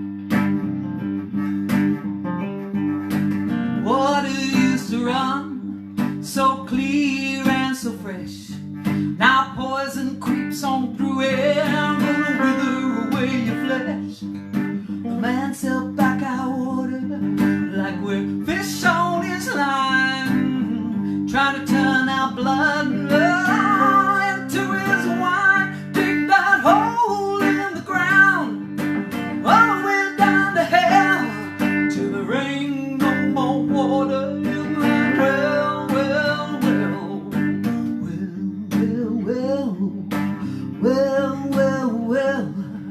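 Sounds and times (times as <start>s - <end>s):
acoustic guitar strumming: 0.0s - 42.9s
person singing: 3.8s - 42.9s.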